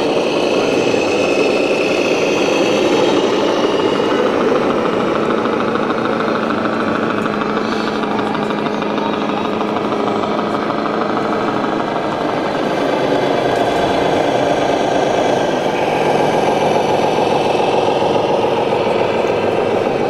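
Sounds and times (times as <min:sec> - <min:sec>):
simulated diesel engine knocking: 0:00.0 - 0:20.0.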